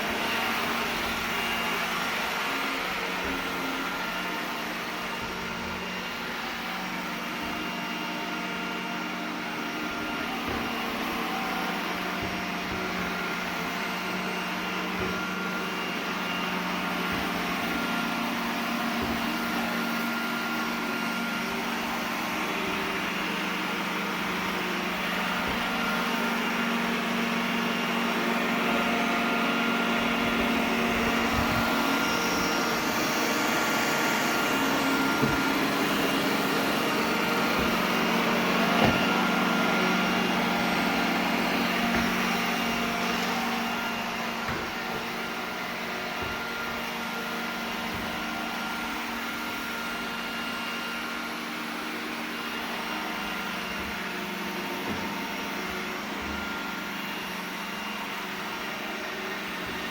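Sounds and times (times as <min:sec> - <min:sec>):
robot vacuum running: 0:00.0 - 0:59.9.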